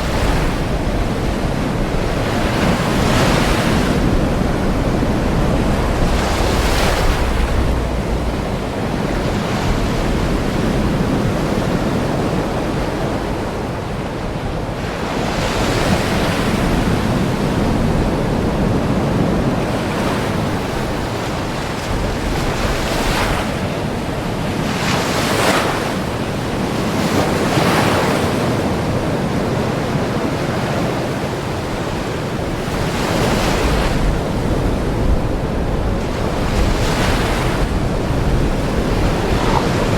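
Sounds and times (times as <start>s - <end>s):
ocean waves breaking on shore: 0.0s - 39.9s
wind rumble on microphone: 0.0s - 39.9s.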